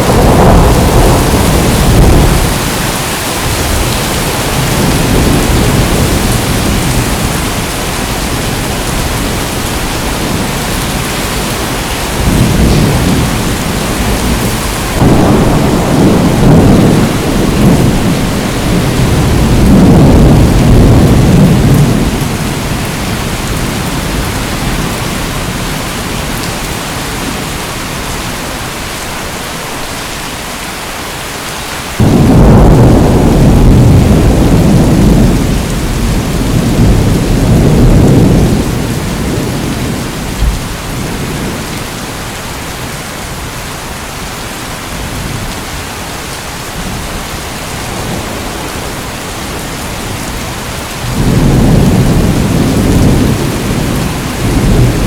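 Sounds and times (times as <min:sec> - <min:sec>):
thunder rumbling: 0:00.0 - 0:27.6, 0:32.0 - 0:42.3, 0:46.7 - 0:55.0
heavy rain hissing: 0:00.0 - 0:55.0.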